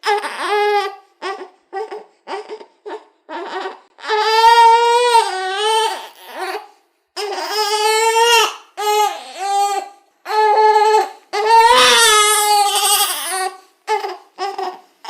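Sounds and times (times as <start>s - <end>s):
baby crying: 0.0s - 14.9s.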